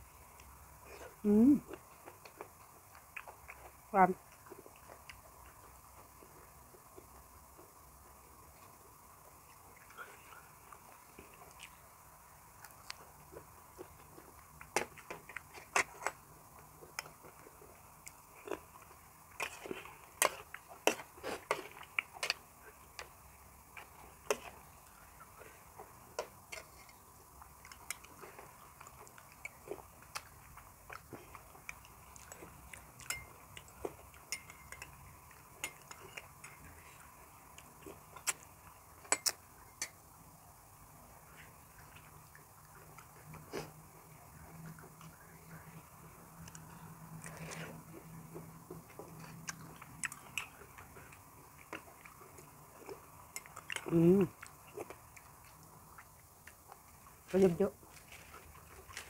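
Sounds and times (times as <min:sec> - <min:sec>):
wet chewing: 0:00.3 - 0:07.7, 0:12.6 - 0:39.9, 0:46.4 - 0:59.0.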